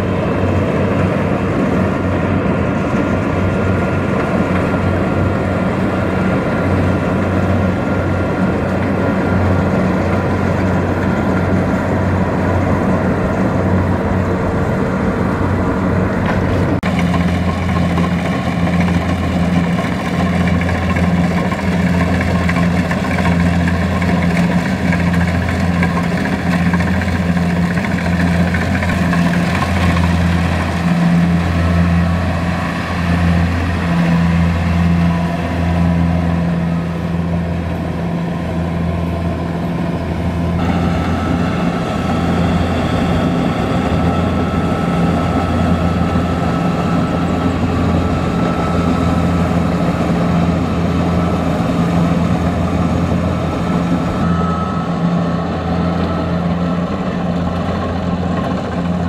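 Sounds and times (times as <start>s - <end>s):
diesel engine droning: 0.0s - 59.0s
high-pitched whine: 0.0s - 59.0s.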